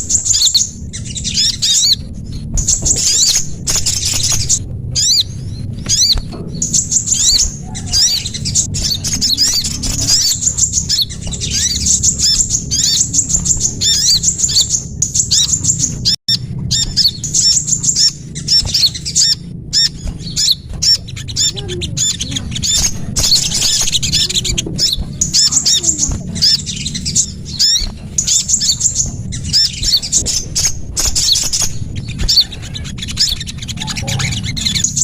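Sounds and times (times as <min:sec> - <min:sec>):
low steady hum: 0:00.0 - 0:35.0
small songbirds chirping: 0:00.0 - 0:35.0.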